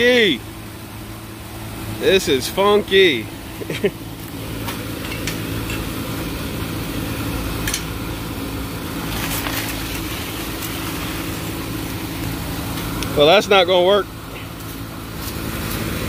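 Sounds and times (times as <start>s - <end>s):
air conditioning units humming: 0.0s - 16.0s.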